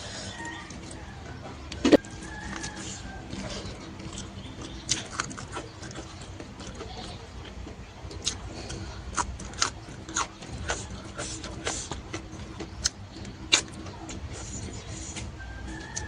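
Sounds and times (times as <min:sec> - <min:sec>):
person chewing: 0:00.3 - 0:16.0
mouth clicks and smacks: 0:01.7 - 0:16.0.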